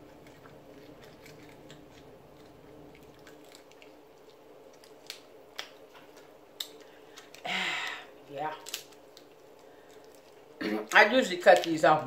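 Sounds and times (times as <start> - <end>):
low steady hum: 0.0 - 12.0
shellfish shell cracking: 0.2 - 11.8.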